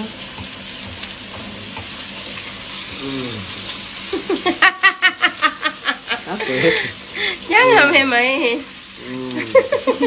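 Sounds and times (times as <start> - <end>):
vegetables sizzling in a wok: 0.0 - 10.0.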